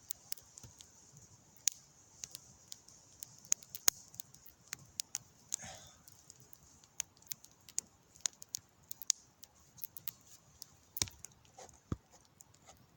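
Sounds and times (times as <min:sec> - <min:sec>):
campfire crackling and popping: 0:00.0 - 0:12.9
faint fire hiss: 0:00.0 - 0:12.9.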